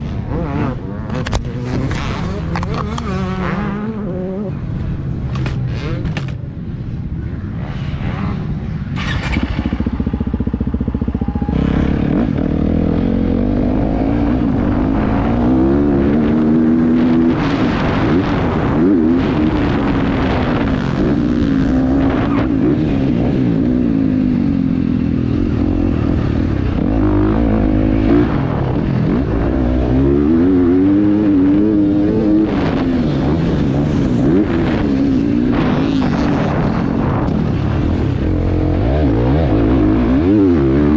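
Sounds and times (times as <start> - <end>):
dirt bike engine revving: 0.0 - 6.4, 7.6 - 40.9.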